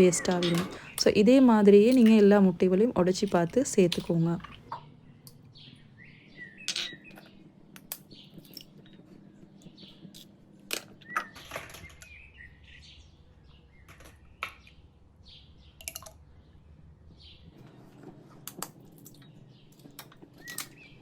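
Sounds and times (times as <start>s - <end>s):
small birds chirping: 0.0s - 17.6s, 18.8s - 21.0s.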